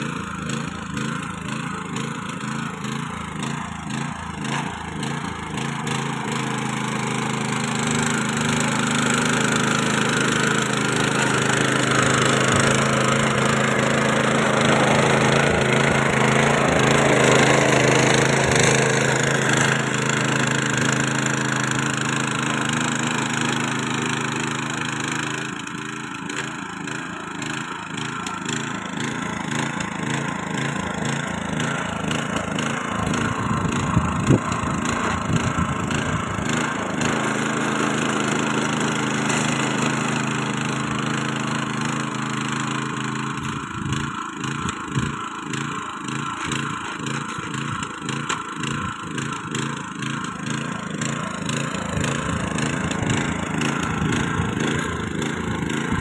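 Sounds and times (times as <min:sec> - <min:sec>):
petrol engine running under load: 0:00.0 - 0:56.0
tiller tines churning soil: 0:00.0 - 0:56.0.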